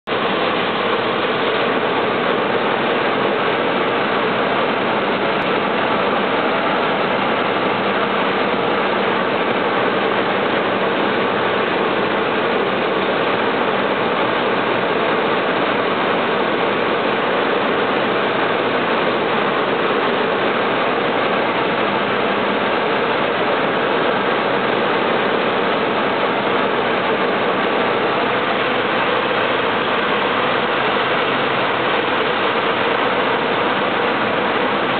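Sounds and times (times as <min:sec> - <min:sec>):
propeller airplane engine: 0:00.0 - 0:34.9
rush of air over cabin: 0:00.1 - 0:34.9.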